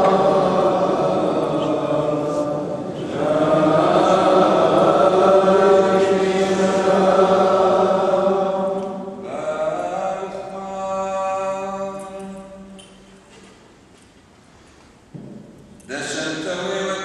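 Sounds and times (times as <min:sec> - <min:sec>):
chant with long held notes: 0:00.0 - 0:13.1, 0:15.9 - 0:17.0.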